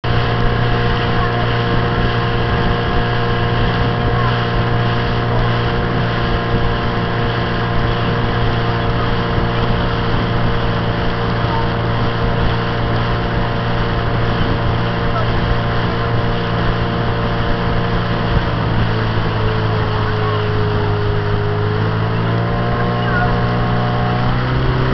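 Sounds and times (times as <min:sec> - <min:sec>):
motor launch engine running: 0:00.0 - 0:24.9.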